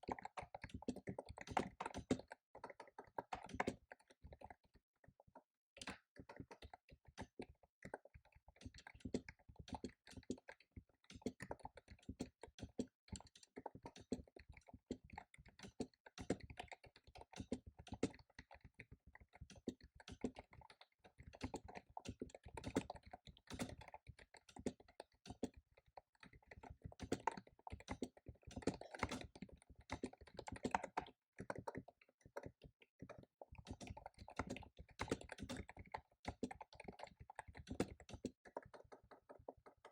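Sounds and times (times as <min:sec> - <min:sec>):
fast keyboard typing: 0:00.0 - 0:04.7, 0:05.8 - 0:39.9.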